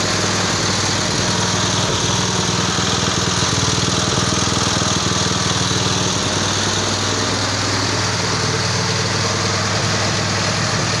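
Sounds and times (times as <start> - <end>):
small petrol engine idling: 0.0 - 11.0.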